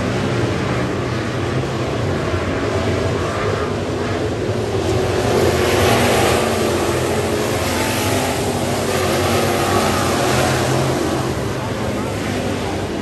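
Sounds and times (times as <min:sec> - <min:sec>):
race car engines at full throttle: 0:00.0 - 0:13.0.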